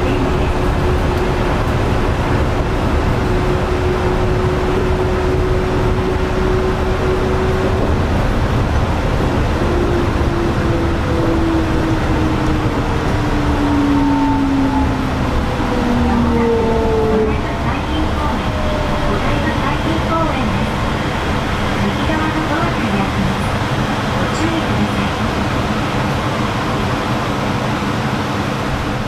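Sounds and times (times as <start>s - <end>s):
train running with motor whine: 0.0s - 29.0s.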